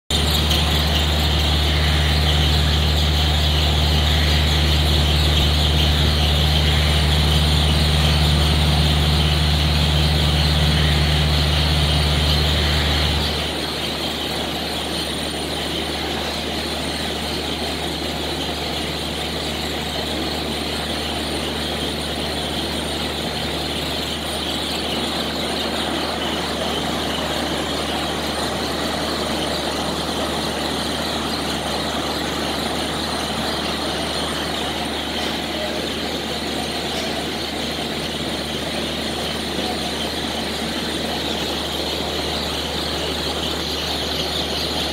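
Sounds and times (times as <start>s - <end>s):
deep loud hum: 0.1s - 44.9s
machinery hum and whir: 0.1s - 44.9s.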